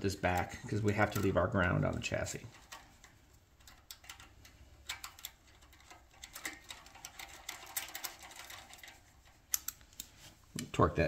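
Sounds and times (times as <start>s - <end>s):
metallic clicks of hand driver: 0.3s - 8.9s, 9.5s - 10.7s.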